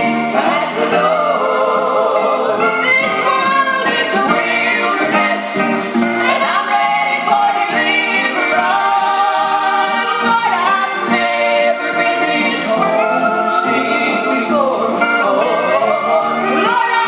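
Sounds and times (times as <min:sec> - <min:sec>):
choir singing in harmony: 0:00.0 - 0:17.0
instrumental backing: 0:00.0 - 0:17.0.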